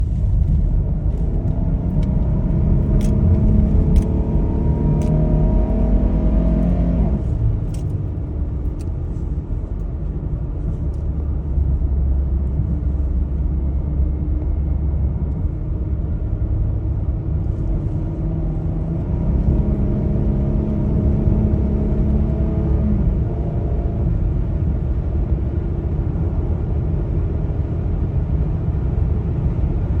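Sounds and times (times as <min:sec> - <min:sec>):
car engine running: 0:00.0 - 0:25.6
low rumble: 0:00.0 - 0:30.0.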